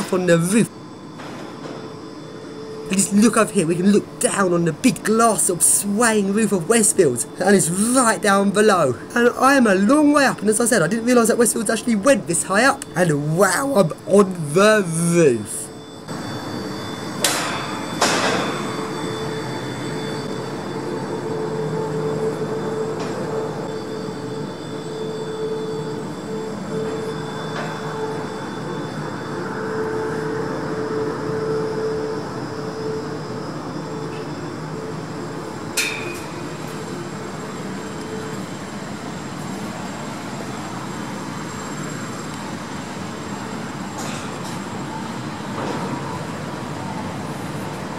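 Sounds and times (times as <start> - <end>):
air conditioning drone: 0.0 - 47.9
high whine: 0.0 - 47.9.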